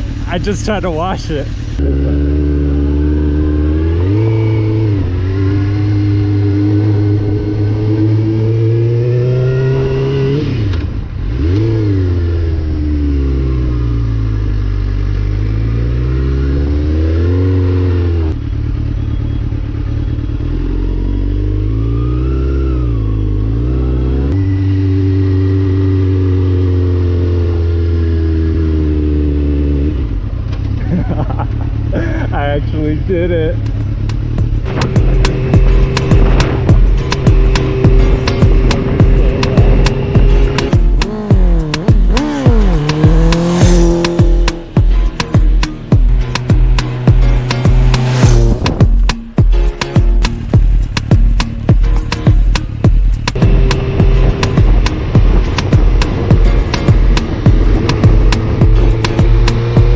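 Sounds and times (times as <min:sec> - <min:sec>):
sport bike engine running hard: 0:00.0 - 0:49.0, 0:50.4 - 0:59.9.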